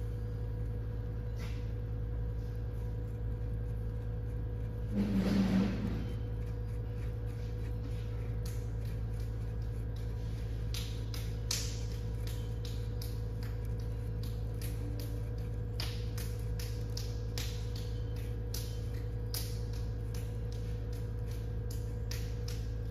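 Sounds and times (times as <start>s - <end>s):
pottery wheel motor humming: 0.0s - 22.9s.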